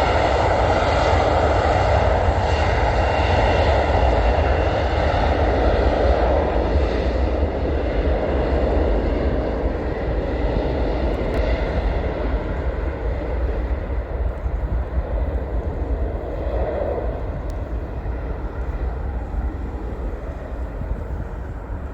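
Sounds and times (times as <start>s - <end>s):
jet engines rumbling on takeoff: 0.0s - 21.9s.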